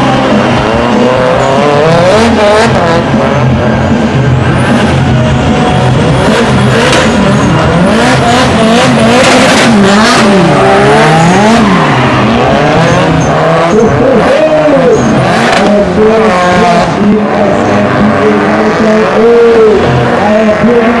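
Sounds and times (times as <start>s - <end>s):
car engines revving hard: 0.0s - 21.0s.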